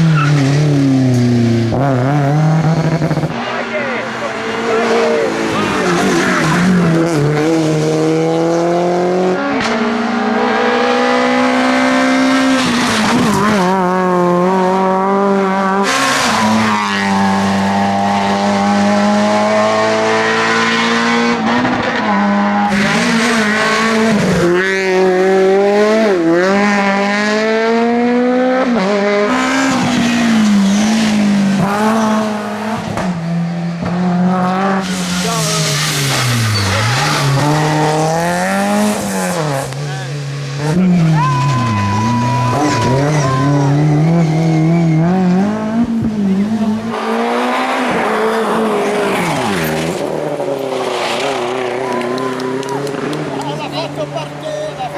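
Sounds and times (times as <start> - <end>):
rally car engine at high revs: 0.0 - 54.9.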